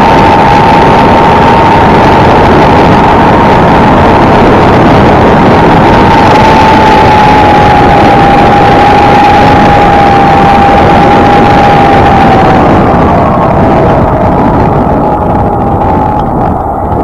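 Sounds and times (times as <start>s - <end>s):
thin steady whine: 0.0s - 17.0s
wind and road noise: 0.0s - 17.0s.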